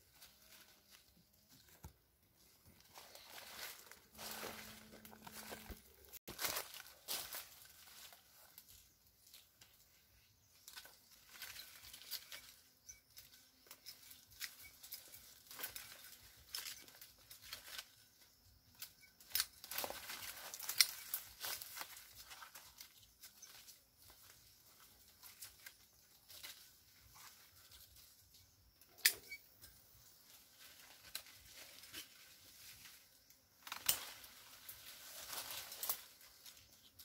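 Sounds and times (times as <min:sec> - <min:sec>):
leaves and twigs rustling: 0:00.0 - 0:37.0.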